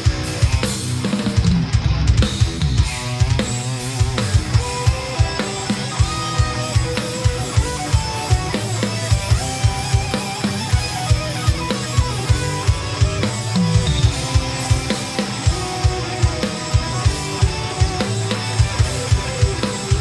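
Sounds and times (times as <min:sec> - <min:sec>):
drum kit played hard: 0:00.0 - 0:20.0
electric guitar metal music: 0:00.0 - 0:20.0.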